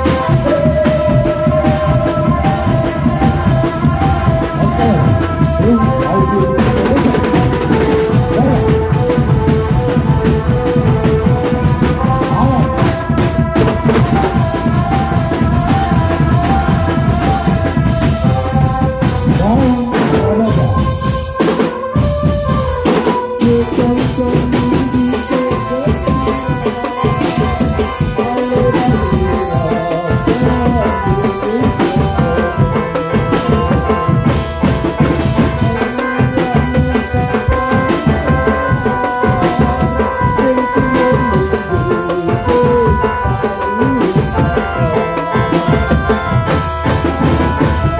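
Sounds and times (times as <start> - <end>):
bass drum: 0.0 - 22.8, 23.4 - 47.9
drum band playing: 0.0 - 47.9
stepping melody line: 0.0 - 47.9.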